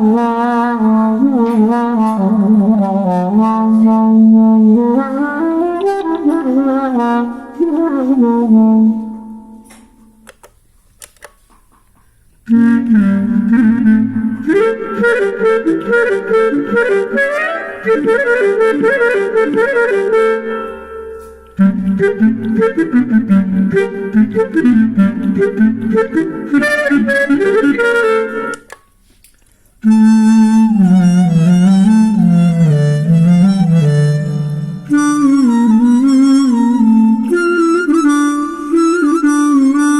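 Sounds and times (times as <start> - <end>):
clarinet-like melody: 0.0 - 10.3, 11.8 - 29.1, 29.8 - 39.9.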